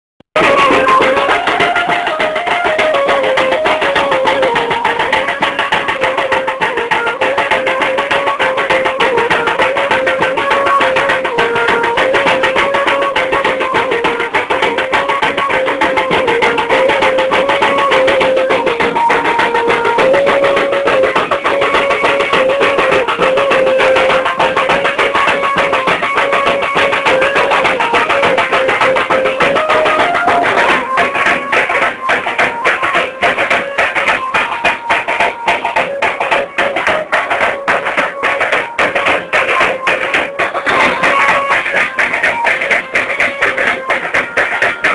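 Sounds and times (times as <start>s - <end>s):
music with steady drumming: 0.3s - 44.9s.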